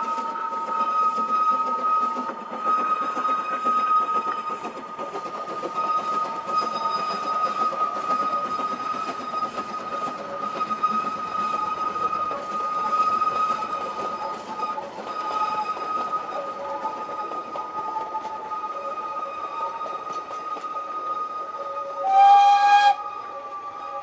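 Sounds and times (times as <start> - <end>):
steam locomotive working a train: 0.0 - 24.0.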